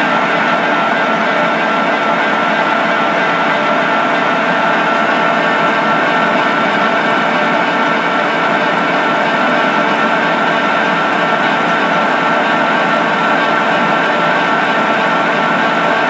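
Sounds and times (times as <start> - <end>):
gear cutting machine running: 0.0 - 16.0.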